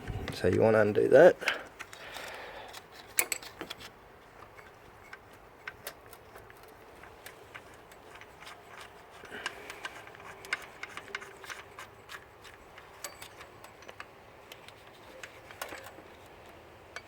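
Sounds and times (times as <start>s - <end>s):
spanner clicking on metal: 1.4s - 3.6s, 4.4s - 17.0s.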